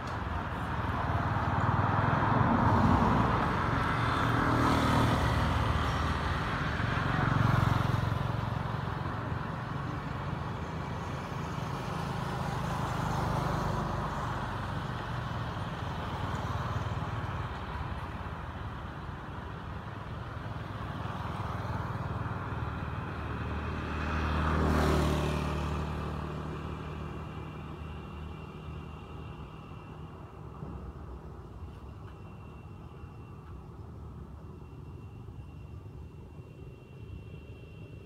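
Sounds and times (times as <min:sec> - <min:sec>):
traffic passing nearby: 0:00.0 - 0:38.0.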